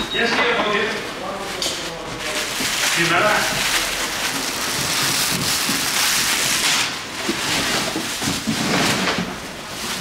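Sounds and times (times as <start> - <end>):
plastic wrap crinkling: 1.0 - 10.0.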